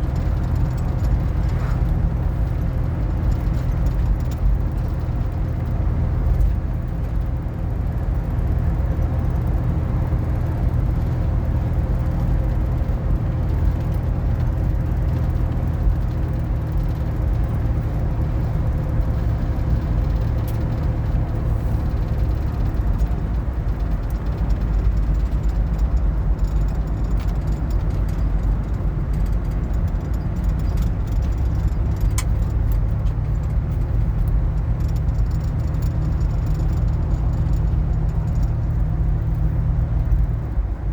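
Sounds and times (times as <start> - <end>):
van road and engine noise: 0.0 - 40.9.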